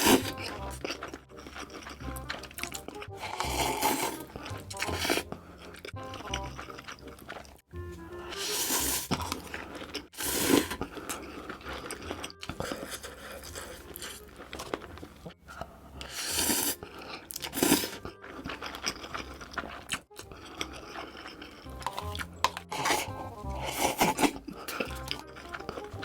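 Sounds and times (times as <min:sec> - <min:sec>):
chewing and wet mouth sounds: 0:00.0 - 0:26.0.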